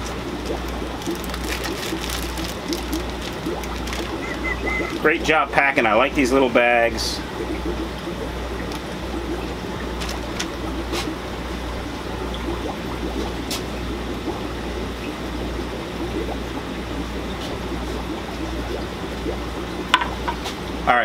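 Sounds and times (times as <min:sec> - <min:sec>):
low hum: 0:00.0 - 0:20.8
aquarium water trickling: 0:00.0 - 0:21.0.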